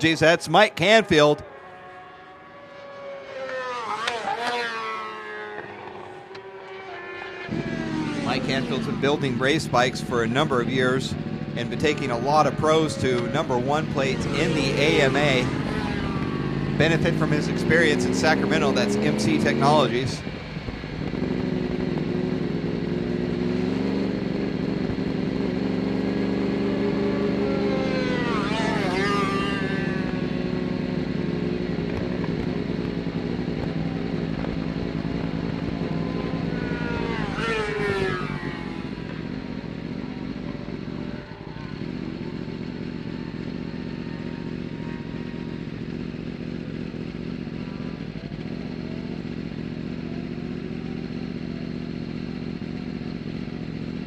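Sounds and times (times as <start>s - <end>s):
motorbike engine idling and revving: 0.0s - 54.0s.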